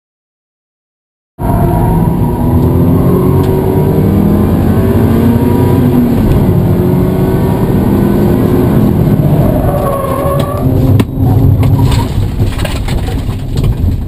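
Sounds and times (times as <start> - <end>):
car engine droning: 1.4 - 14.0.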